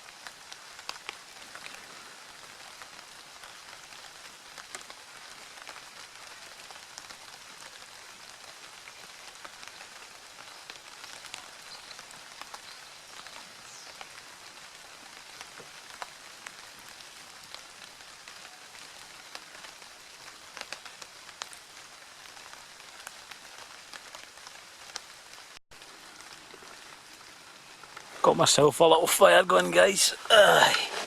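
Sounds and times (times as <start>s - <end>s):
steady loud rain: 0.0s - 31.0s.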